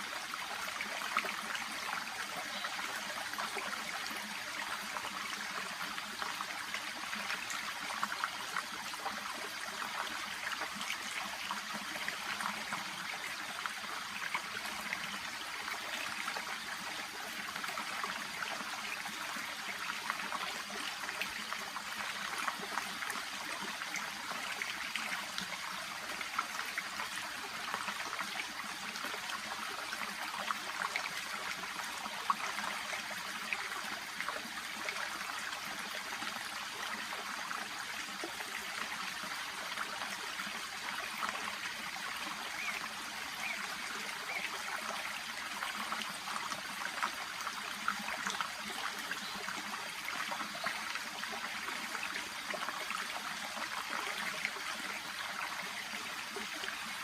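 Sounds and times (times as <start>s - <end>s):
shallow stream trickling: 0.0s - 57.0s.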